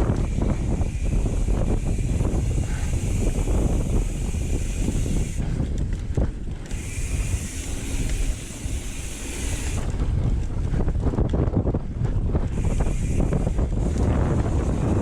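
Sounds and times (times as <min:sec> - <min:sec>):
bike rumbling over dirt trail: 0:00.0 - 0:15.0
wind on microphone: 0:00.0 - 0:15.0.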